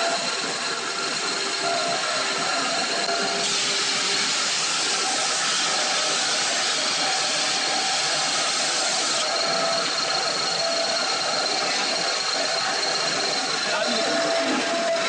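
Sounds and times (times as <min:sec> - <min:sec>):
lathe machine hum: 0:00.0 - 0:15.0.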